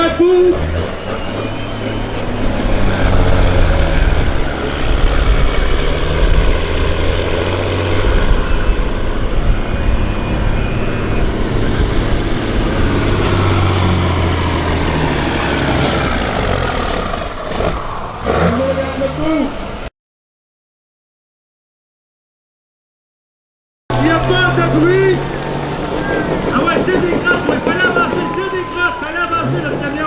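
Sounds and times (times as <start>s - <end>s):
truck diesel engine at full throttle: 0.0s - 19.9s, 23.9s - 30.0s.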